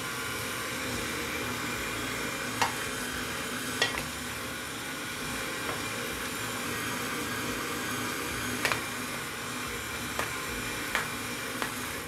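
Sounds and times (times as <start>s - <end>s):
electric meat grinder running: 0.0s - 12.0s.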